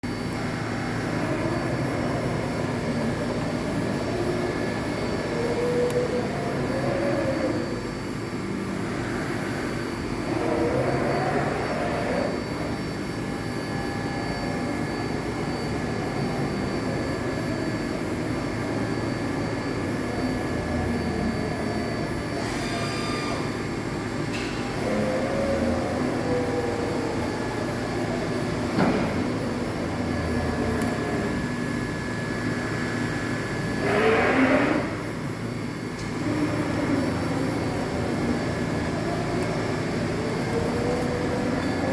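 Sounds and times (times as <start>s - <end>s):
machine drive whine: 0.0s - 41.9s
milling machine hum: 0.0s - 41.9s.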